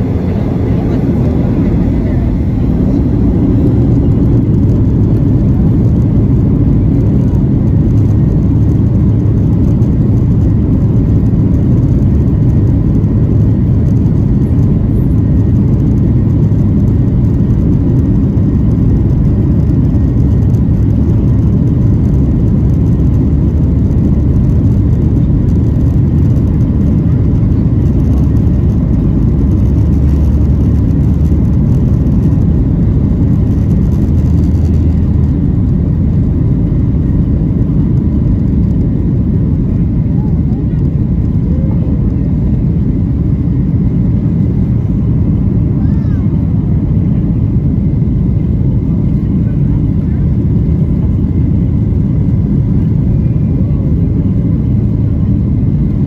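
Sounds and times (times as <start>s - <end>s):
airliner engines low rumble: 0.0s - 56.0s.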